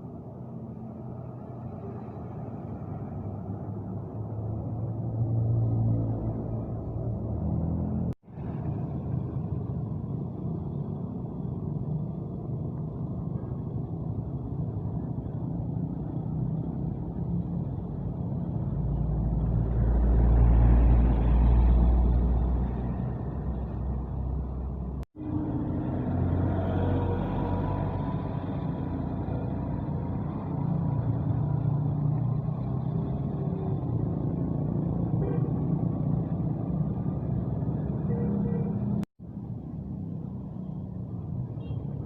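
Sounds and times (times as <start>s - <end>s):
bus engines rumbling: 0.0s - 42.0s.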